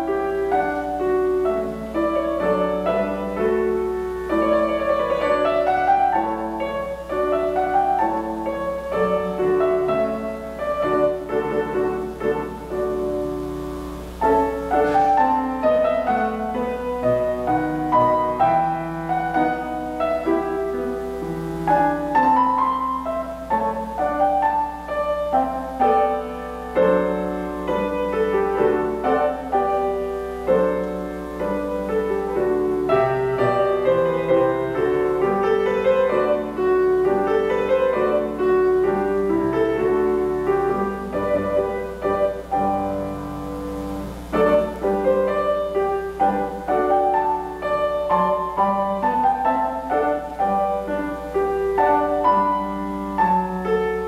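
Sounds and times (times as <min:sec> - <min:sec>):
solo piano classical piece: 0:00.0 - 0:54.0.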